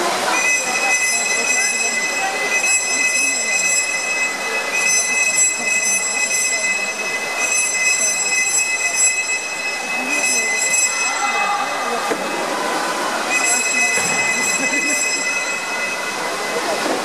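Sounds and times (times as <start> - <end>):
faint shouting voices: 0.0 - 16.8
crowd noise: 0.0 - 17.0.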